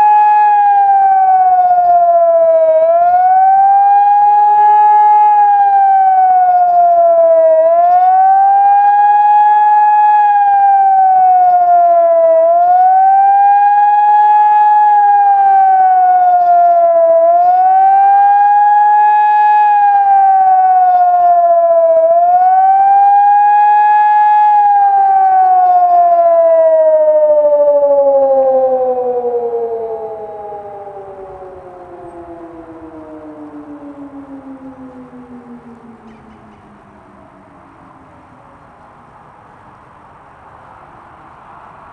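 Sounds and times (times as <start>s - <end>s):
siren wailing: 0.0s - 39.3s.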